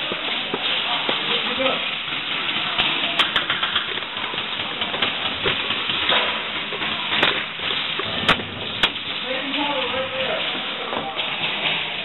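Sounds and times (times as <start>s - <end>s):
steady hiss of arena noise: 0.0s - 12.0s.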